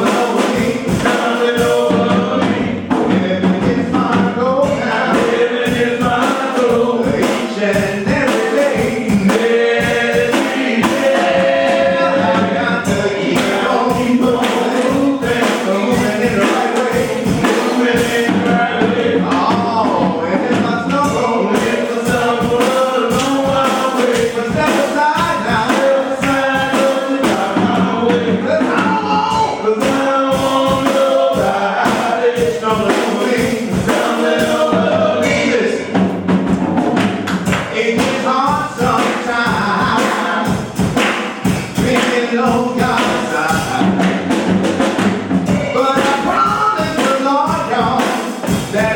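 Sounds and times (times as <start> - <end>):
band accompaniment with steady beat: 0.0 - 48.9
choir singing gospel: 0.0 - 48.9.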